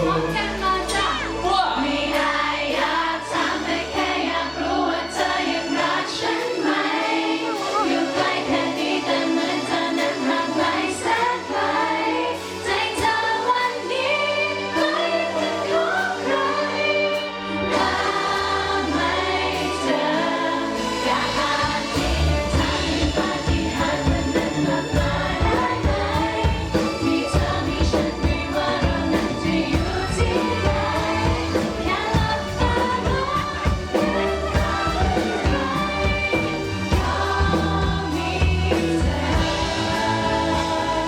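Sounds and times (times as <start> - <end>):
live band music: 0.0 - 41.0
people singing: 0.0 - 41.0.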